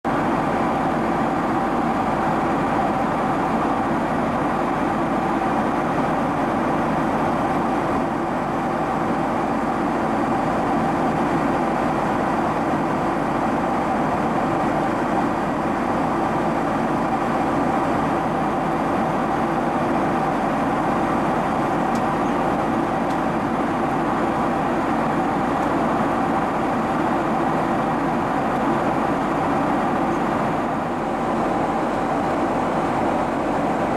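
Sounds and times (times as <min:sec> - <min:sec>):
jet engine and airflow drone: 0:00.0 - 0:33.9
steady hums: 0:00.1 - 0:33.9.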